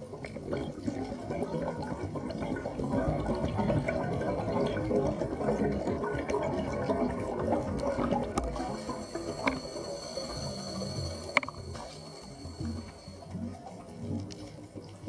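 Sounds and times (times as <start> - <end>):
underwater gurgling and bubbling: 0.0 - 15.0.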